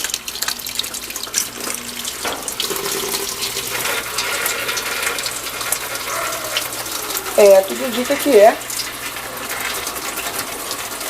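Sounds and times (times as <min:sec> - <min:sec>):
water rushing through valve: 0:00.0 - 0:11.0.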